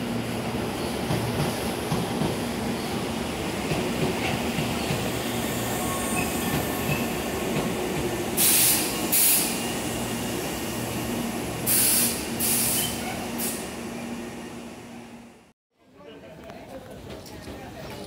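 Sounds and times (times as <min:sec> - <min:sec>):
train rumbling: 0:00.0 - 0:15.5.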